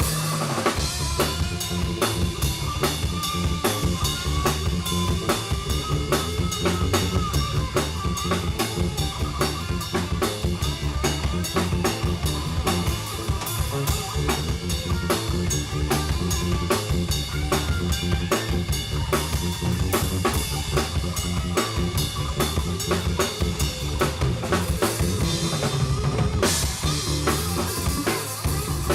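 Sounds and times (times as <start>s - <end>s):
drum kit fast beat: 0.0s - 28.9s
live band playing: 0.0s - 28.9s.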